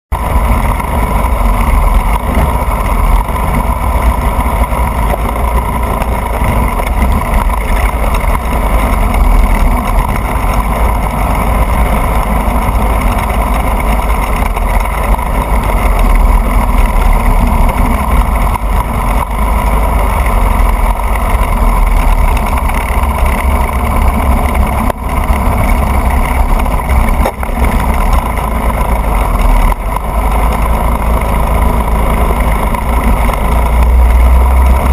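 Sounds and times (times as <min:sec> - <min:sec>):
go-kart engine running hard: 0:00.1 - 0:34.9
wind rumble and chassis vibration: 0:00.1 - 0:34.9.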